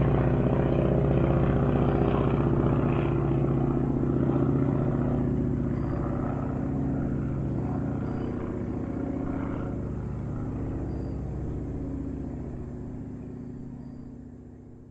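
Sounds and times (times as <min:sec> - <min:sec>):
propeller airplane engine running: 0:00.0 - 0:14.9.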